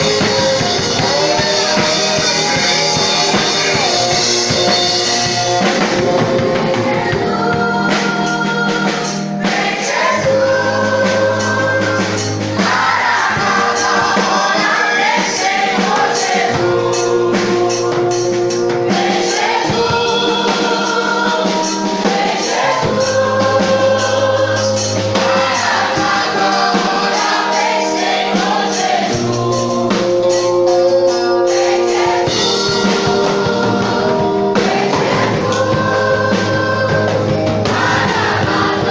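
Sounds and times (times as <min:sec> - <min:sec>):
band with bass and percussion: 0:00.0 - 0:38.9
choir singing gospel song: 0:00.0 - 0:38.9.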